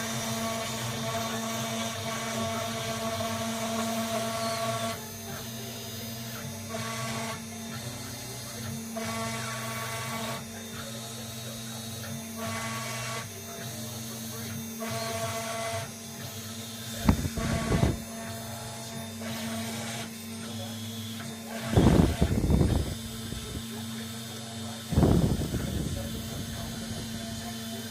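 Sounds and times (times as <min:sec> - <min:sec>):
router spindle running: 0:00.0 - 0:27.9
stepper motors whining: 0:00.0 - 0:27.9.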